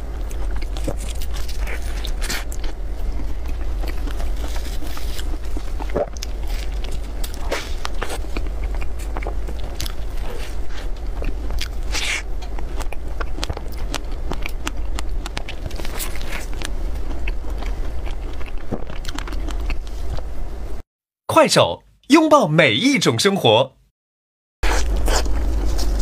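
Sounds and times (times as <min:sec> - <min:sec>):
biting and chewing: 0:00.0 - 0:20.3, 0:24.6 - 0:26.0
steady low hum: 0:00.0 - 0:20.8, 0:24.6 - 0:26.0.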